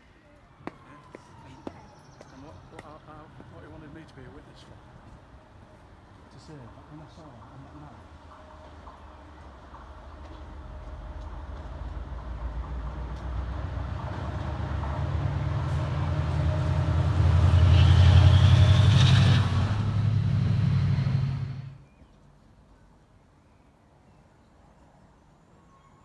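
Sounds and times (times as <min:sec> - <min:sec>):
diesel locomotive engine hum: 0:00.0 - 0:22.0
wheels rumbling on rails: 0:00.0 - 0:22.6.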